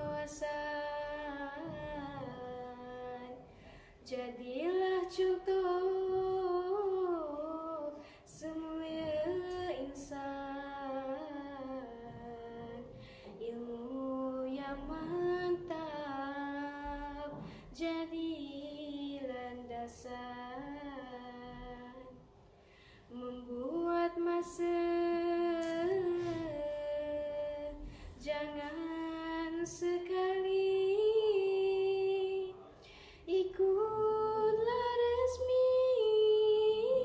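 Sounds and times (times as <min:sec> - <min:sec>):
girl singing unaccompanied: 0:00.0 - 0:22.3, 0:23.1 - 0:32.5, 0:33.3 - 0:37.0.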